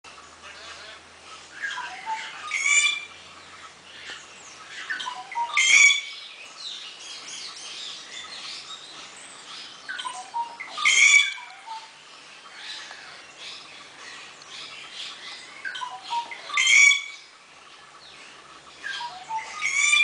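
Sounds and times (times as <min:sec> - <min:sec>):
birds calling loudly: 0:00.1 - 0:20.0.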